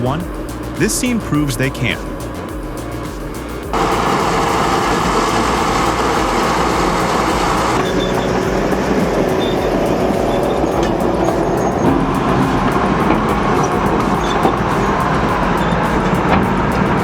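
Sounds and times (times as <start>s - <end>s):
diesel engines running under load: 0.0s - 17.0s.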